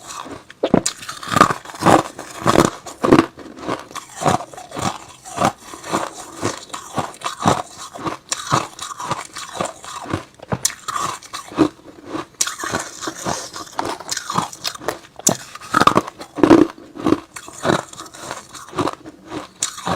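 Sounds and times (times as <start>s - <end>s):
chewing crunchy ice: 0.0s - 19.9s.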